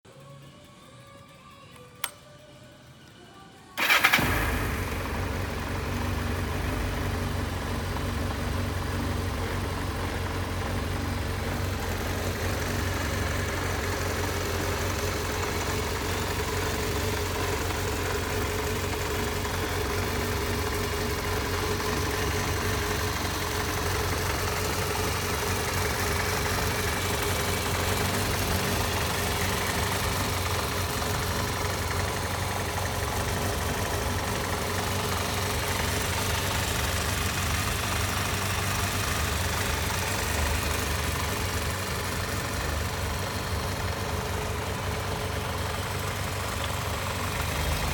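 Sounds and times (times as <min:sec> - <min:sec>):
motorcycle engine starting and idling: 0:00.1 - 0:02.8, 0:03.6 - 0:47.9.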